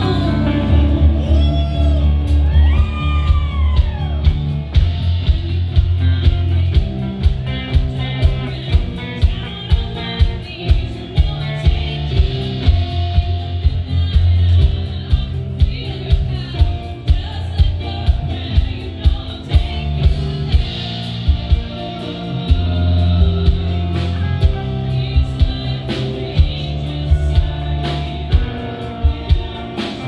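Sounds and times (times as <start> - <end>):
person singing: 0.0 - 30.0
steady drum beat: 0.0 - 30.0.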